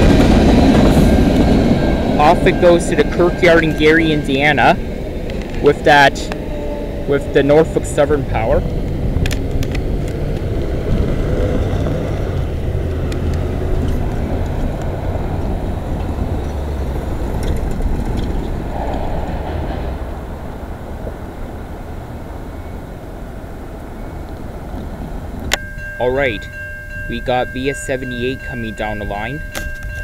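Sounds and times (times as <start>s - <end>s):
freight train rumbling: 0.0s - 30.0s.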